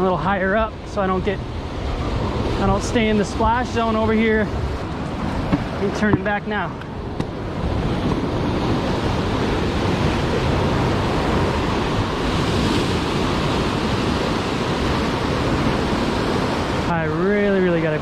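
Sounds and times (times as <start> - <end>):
surf breaking on rocks: 0.2 - 18.0.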